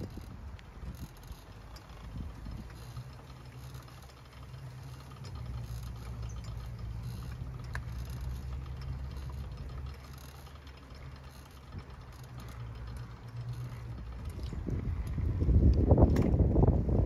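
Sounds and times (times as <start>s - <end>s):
bicycle rumble on asphalt: 0.0s - 17.0s
light rattling: 0.0s - 17.0s.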